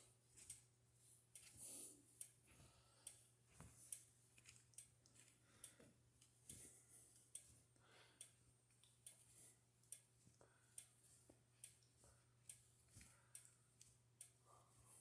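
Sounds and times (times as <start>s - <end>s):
faint regular clicking: 0.0s - 15.0s.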